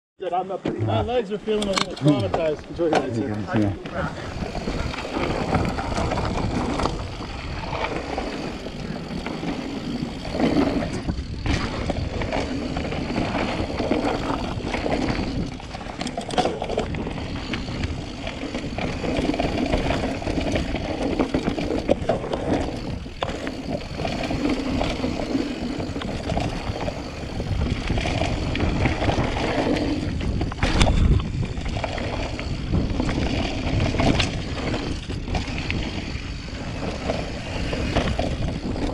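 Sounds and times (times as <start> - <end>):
bike tyres rolling over dirt: 0.8 - 38.9
bike knocks and rattles: 3.8 - 38.9.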